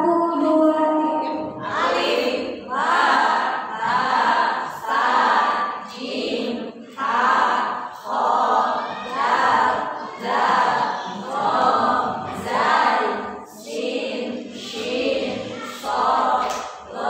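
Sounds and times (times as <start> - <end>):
women chanting together: 0.0 - 17.0.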